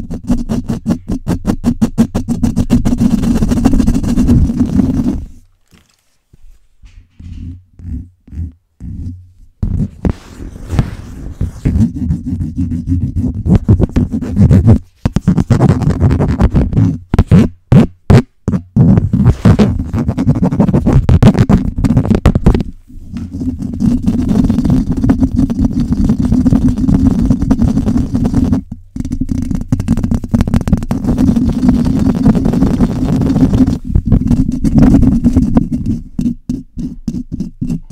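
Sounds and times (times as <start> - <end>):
microphone being scratched: 0.0 - 37.9.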